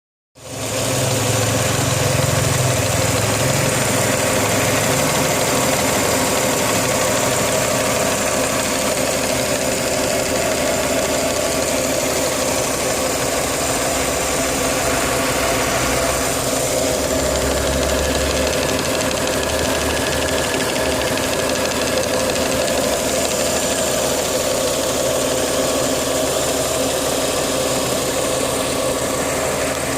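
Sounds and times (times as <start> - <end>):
engine running with rattle: 0.4 - 29.9.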